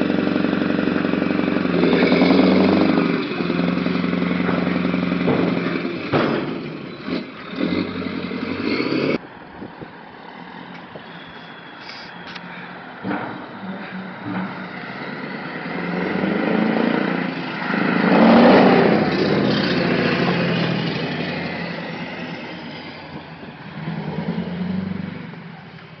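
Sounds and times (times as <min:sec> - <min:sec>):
truck engine driving past: 0:00.0 - 0:26.0.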